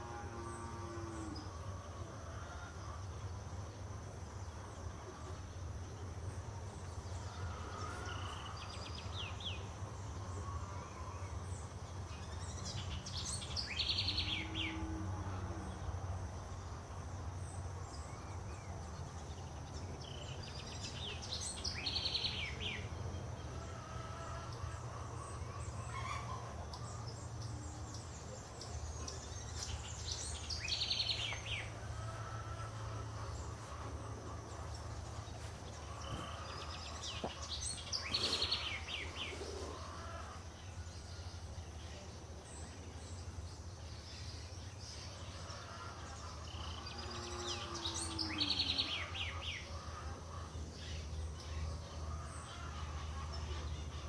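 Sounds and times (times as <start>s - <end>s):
insect hum: 0.0s - 54.0s.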